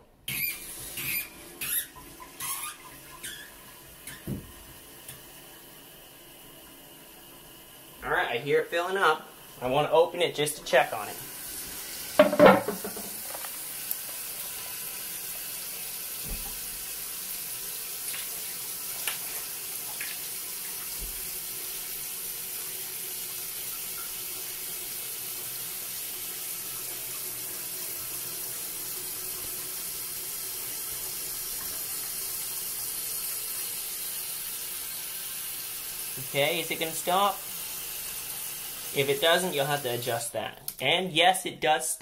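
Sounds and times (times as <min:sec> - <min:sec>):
toilet tank refilling hiss: 0:00.3 - 0:08.2, 0:08.8 - 0:40.3.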